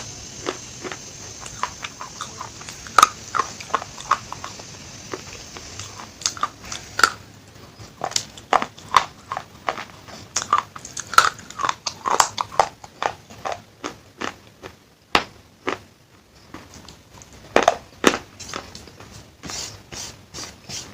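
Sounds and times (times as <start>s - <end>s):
crunchy chewing: 0.0s - 19.3s.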